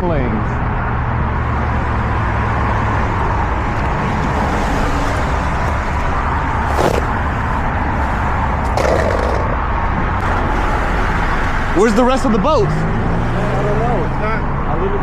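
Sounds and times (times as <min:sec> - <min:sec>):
road noise of passing vehicles: 0:00.0 - 0:15.0.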